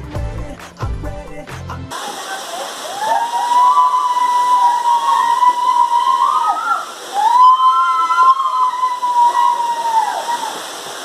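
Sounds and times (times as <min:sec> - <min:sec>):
small waterfall rushing: 0:01.8 - 0:11.0.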